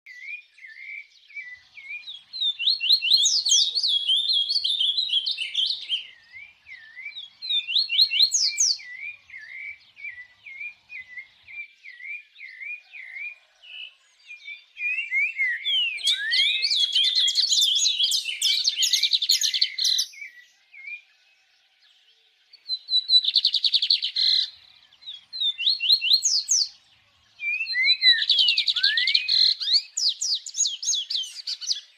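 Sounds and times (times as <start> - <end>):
songbird singing: 0.1 - 31.9.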